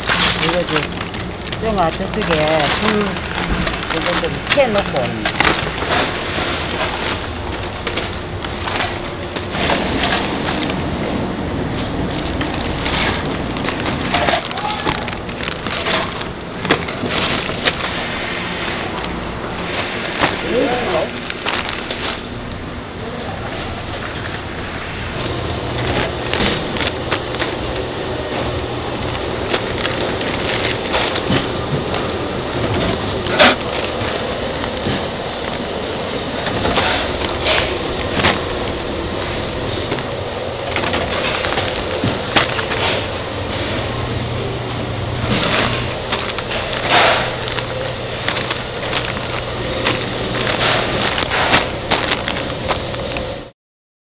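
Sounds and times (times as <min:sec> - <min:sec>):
band sealer running: 0:00.0 - 0:53.5
crackers clattering and rustling: 0:00.0 - 0:53.5
plastic bags crinkling: 0:00.0 - 0:53.5.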